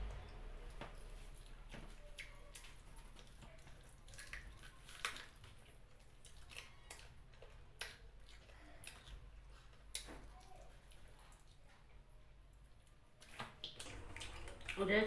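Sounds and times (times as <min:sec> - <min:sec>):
person chewing wetly: 0:00.9 - 0:15.0.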